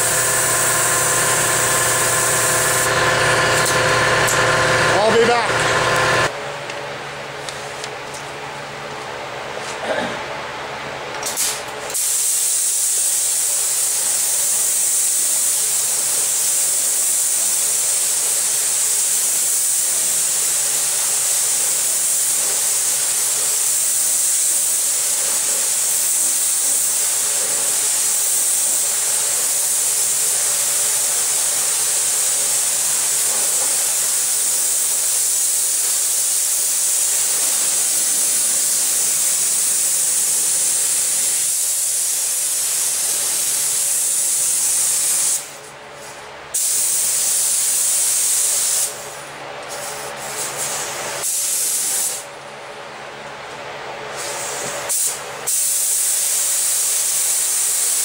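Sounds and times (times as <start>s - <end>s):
spray gun air hiss: 0.0s - 6.3s, 11.9s - 49.1s, 49.7s - 52.3s, 54.1s - 58.0s.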